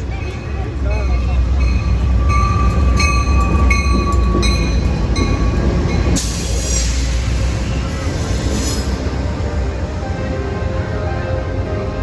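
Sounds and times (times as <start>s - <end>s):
train rumbling in: 0.0s - 12.0s.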